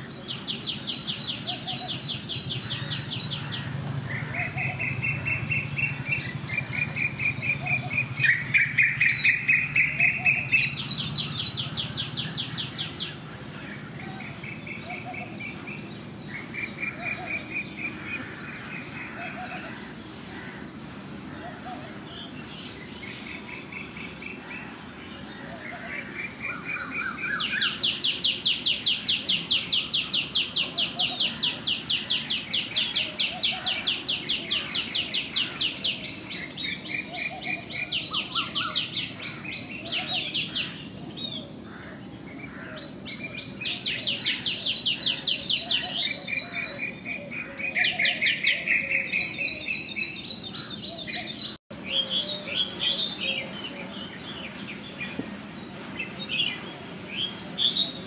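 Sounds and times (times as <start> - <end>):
low background noise: 0.0 - 58.0
small birds trilling: 0.0 - 58.0.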